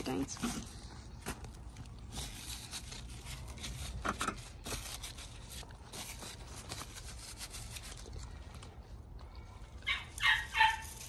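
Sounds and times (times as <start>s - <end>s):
dry seed heads rustling: 0.0s - 9.2s.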